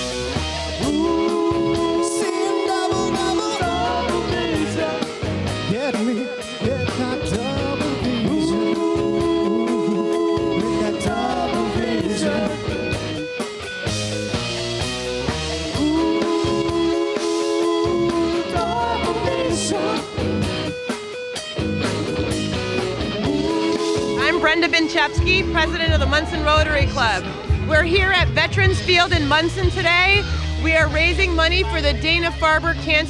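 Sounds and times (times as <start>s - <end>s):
rock music with guitar: 0.0s - 33.0s.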